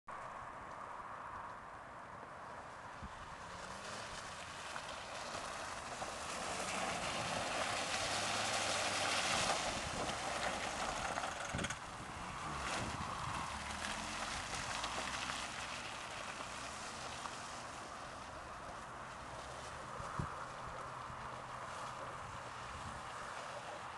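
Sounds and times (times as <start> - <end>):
tyres sliding through mud: 2.8 - 23.9.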